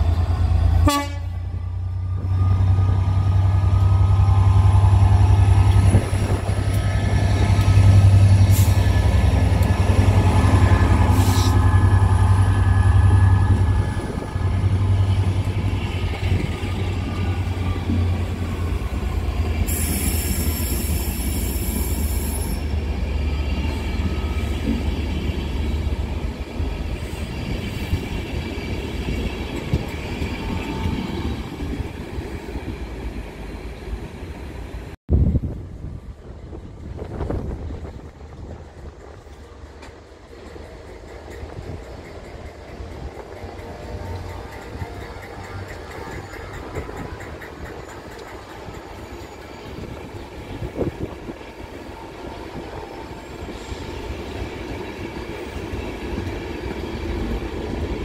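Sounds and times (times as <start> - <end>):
train engine rumble: 0.0 - 58.0.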